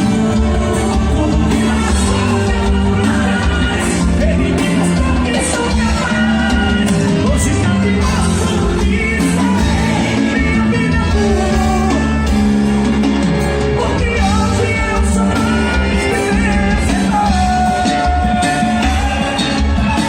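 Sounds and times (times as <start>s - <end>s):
person singing: 0.0s - 12.6s, 13.4s - 20.0s
live band music: 0.0s - 20.0s
steady bass: 0.0s - 20.0s.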